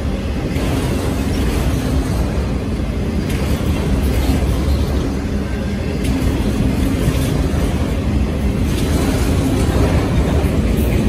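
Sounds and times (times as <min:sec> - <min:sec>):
steel wheels on rail: 0:00.0 - 0:11.0.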